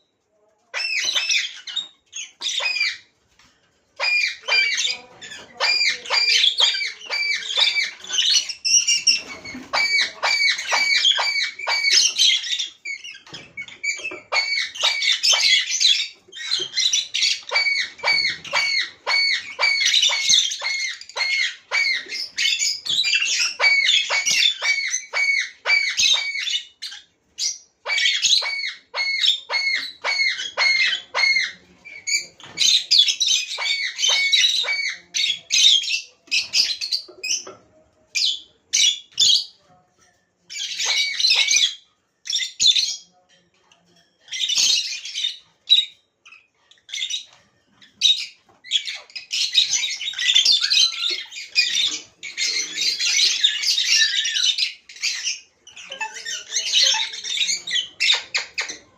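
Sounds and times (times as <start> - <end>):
lovebirds squawking and chirping: 0.7 - 39.8, 40.4 - 43.2, 44.2 - 58.9.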